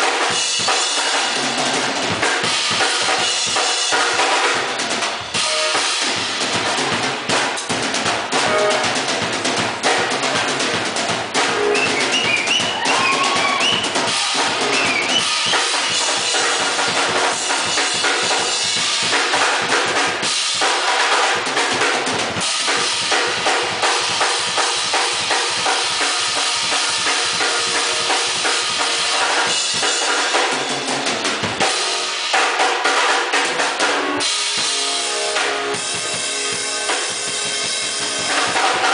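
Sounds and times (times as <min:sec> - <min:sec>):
drum-driven music: 0:00.0 - 0:38.9.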